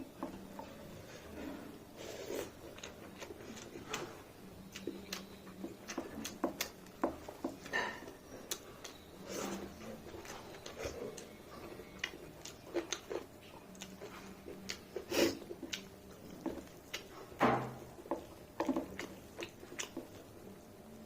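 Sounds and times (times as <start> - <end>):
person chewing with wet smacks: 2.3 - 21.0.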